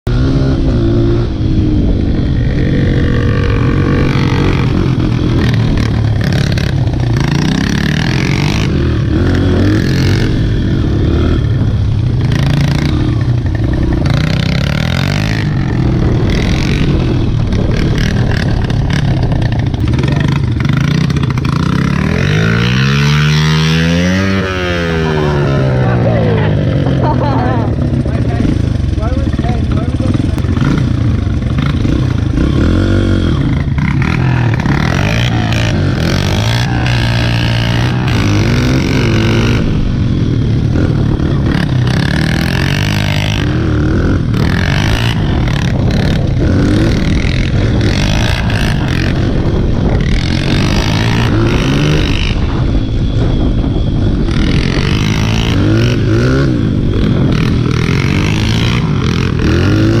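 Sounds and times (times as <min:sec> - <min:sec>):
dirt bike engine revving: 0:00.1 - 1:00.0.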